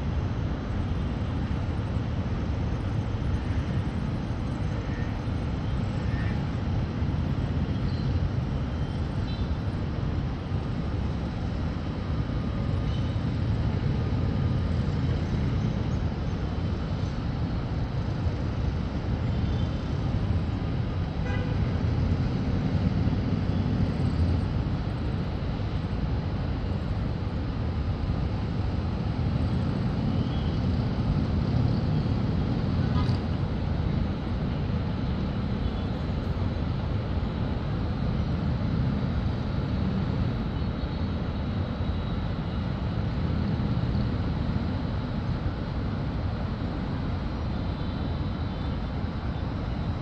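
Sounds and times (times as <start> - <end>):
distant city traffic hum: 0.0 - 50.0.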